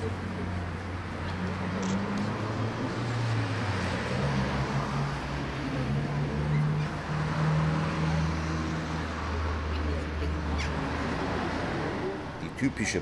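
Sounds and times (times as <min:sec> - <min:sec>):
cars passing by: 0:00.0 - 0:13.0
city background noise: 0:00.0 - 0:13.0.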